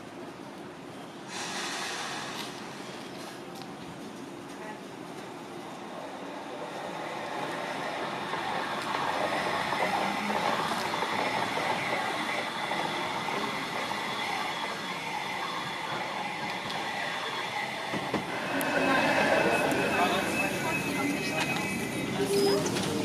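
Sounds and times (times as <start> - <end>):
train rolling on tracks: 0.0 - 23.0.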